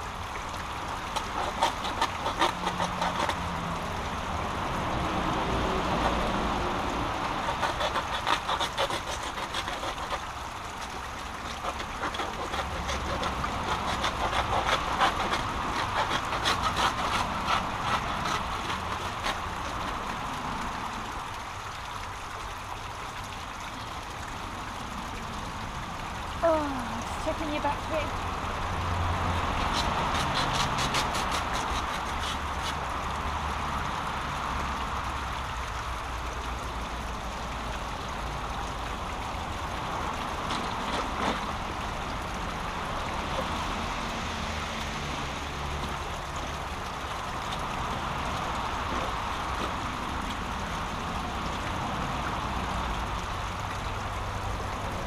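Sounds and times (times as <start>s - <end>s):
clicks knocks and small splashes: 0.0s - 55.0s
water rushing over small waterfall: 0.0s - 55.0s.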